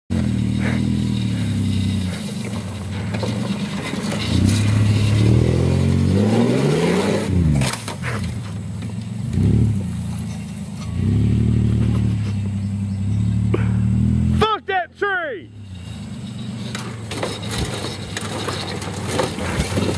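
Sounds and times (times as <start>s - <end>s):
engine revving: 0.1s - 14.7s, 15.4s - 19.9s.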